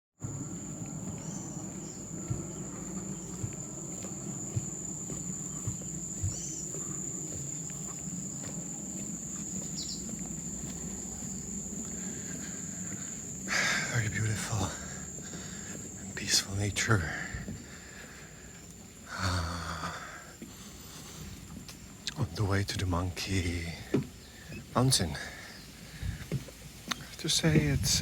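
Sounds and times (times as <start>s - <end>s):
faint chirps: 0.2s - 26.3s
insects droning: 0.2s - 28.0s.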